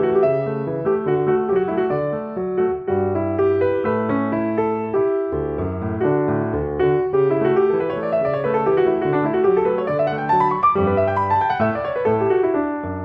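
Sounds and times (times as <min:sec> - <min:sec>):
solo piano piece: 0:00.0 - 0:13.0.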